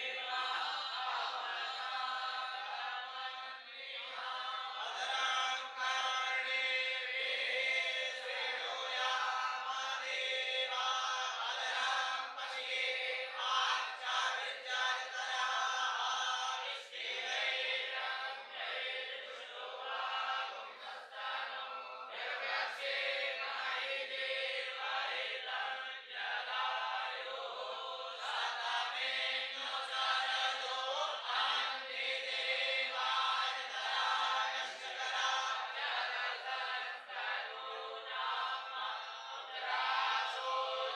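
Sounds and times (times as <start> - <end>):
group chanting in unison: 0.0 - 40.9.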